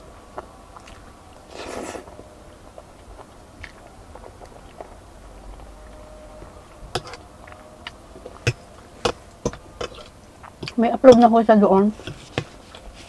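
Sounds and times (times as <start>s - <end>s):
person chewing spaghetti: 0.0s - 10.8s.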